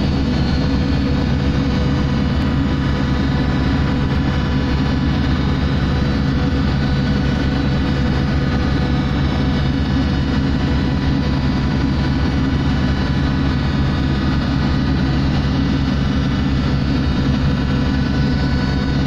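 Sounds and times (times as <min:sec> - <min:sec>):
ship engines droning: 0:00.0 - 0:19.0.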